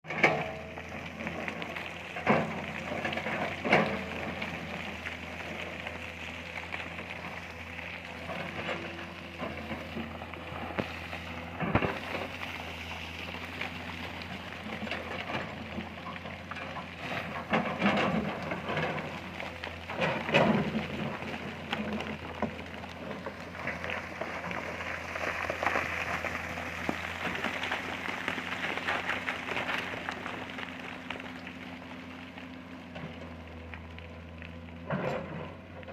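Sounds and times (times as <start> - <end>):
dirt and rock crackling: 0.0 - 35.9
excavator diesel engine running: 0.0 - 35.9.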